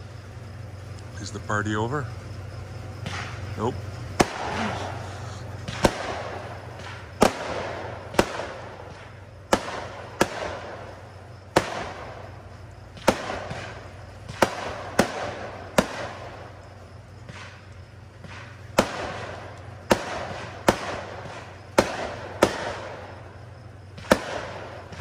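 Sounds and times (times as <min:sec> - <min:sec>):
fireworks bursting with sharp bangs: 0:02.2 - 0:25.0.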